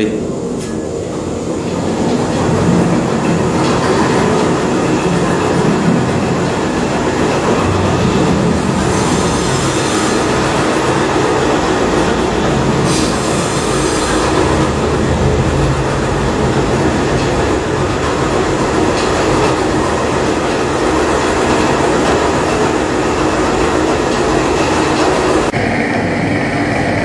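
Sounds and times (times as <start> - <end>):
engine heater fan running: 0.0 - 27.0
low hum: 0.0 - 27.0.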